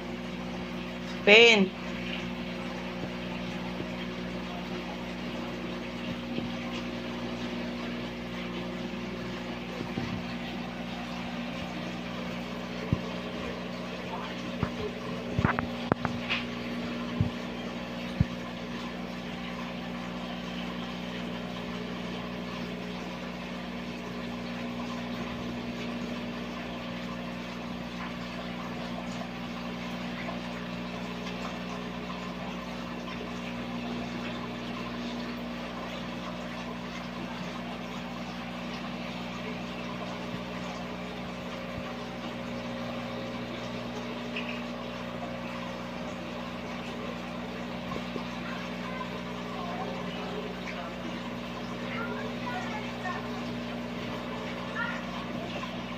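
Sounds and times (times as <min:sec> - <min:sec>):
aquarium pump humming: 0:00.0 - 0:55.9.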